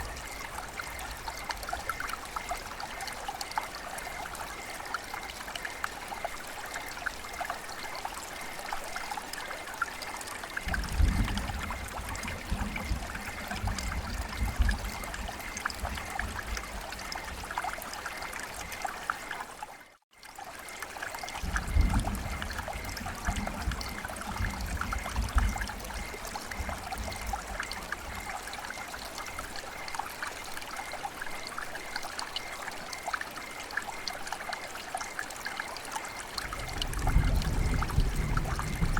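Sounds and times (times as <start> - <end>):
rain pattering: 0.0 - 38.9
trickling water: 0.0 - 38.9.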